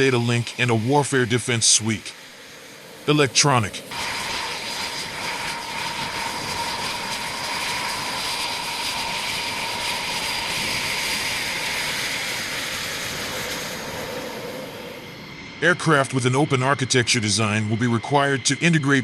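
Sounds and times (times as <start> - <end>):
aircraft engine running: 0.0 - 19.0.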